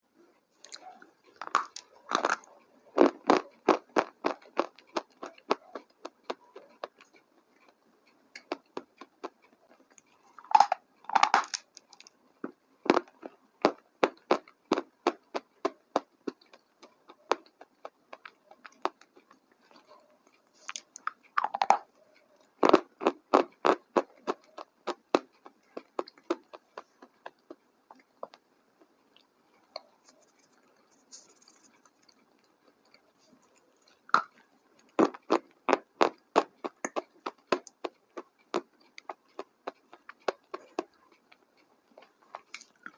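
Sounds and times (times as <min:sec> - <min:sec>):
chewing crunchy food: 0:00.2 - 0:42.9.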